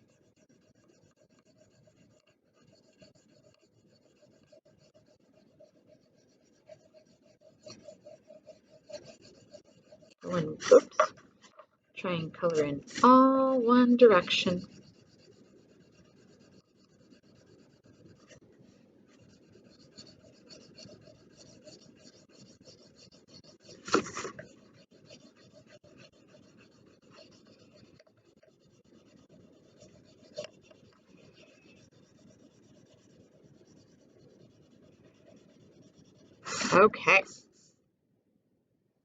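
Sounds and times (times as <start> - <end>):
scratchy colouring on paper: 0.0 - 37.8.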